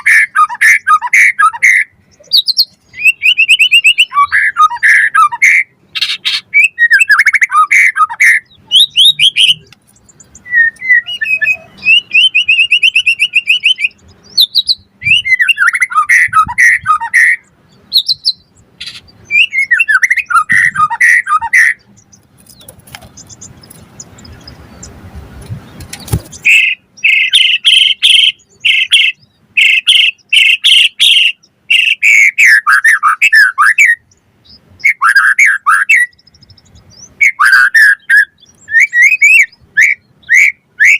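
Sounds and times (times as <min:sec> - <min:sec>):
bird singing whistles and trills: 0:00.0 - 0:24.9, 0:25.9 - 0:40.9.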